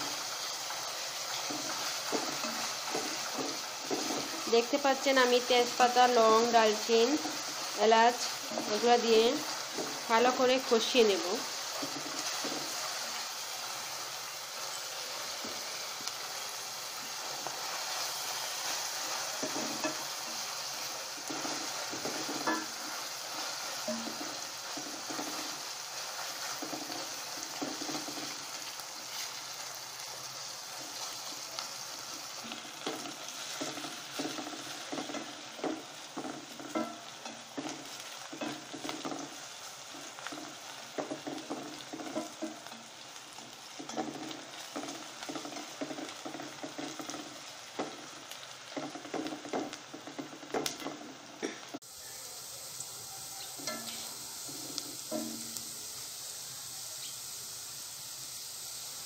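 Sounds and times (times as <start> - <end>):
spatula scraping pan: 0.0 - 16.4, 17.0 - 29.7, 30.7 - 51.0
onions sizzling in hot oil: 0.0 - 59.0.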